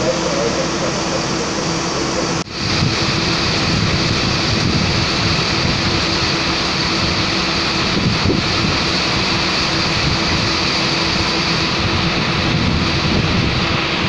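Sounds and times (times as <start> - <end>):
train engine rumbling: 0.0 - 14.0.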